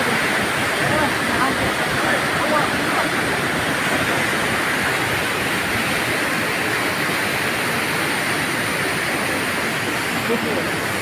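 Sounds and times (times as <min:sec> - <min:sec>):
waterfall crashing into pool: 0:00.0 - 0:11.0.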